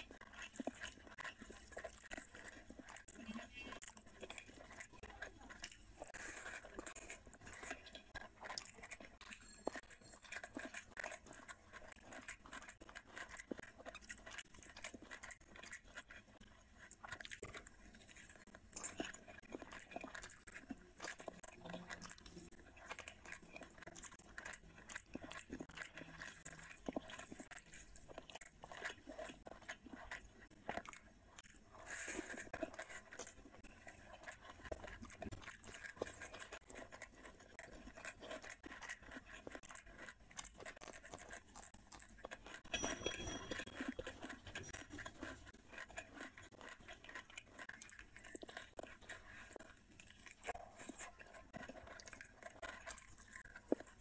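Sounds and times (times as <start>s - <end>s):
crunches and mouth clicks: 0.0s - 54.0s
person chewing: 0.0s - 54.0s.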